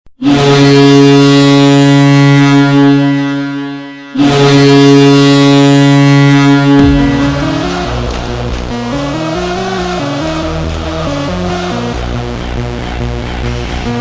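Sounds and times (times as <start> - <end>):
deep goal horn blasts: 0.2 - 12.7.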